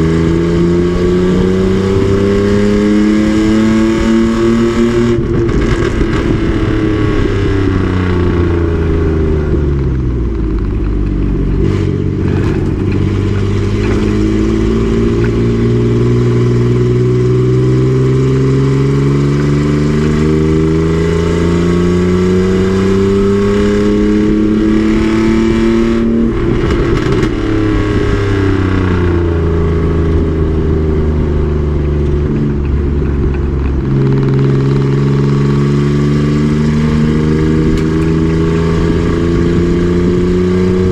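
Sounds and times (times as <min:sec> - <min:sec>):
race truck engine: 0:00.0 - 0:40.9.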